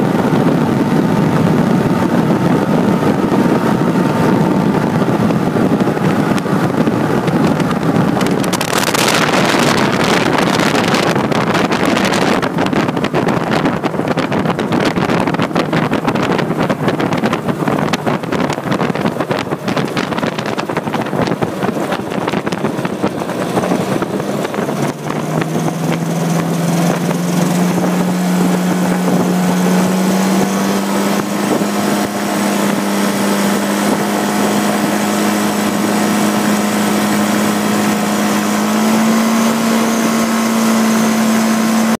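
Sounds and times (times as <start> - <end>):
ultralight aircraft engine: 0.0 - 42.0
wind buffeting the microphone: 0.0 - 42.0.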